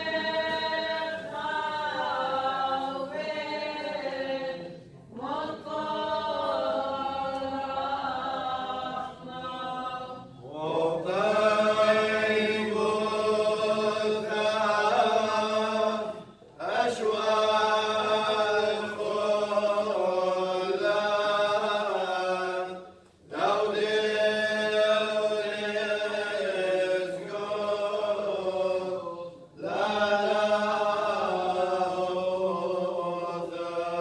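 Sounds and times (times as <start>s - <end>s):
liturgical chant sung in unison: 0.0s - 34.0s.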